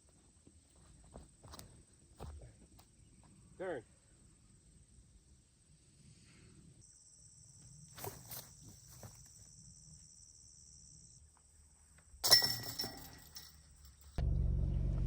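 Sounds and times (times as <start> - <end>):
insects trilling: 0.0 - 12.2.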